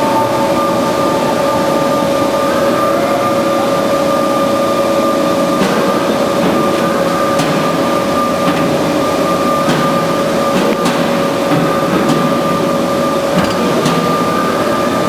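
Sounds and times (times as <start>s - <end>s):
band saw running: 0.0s - 15.0s.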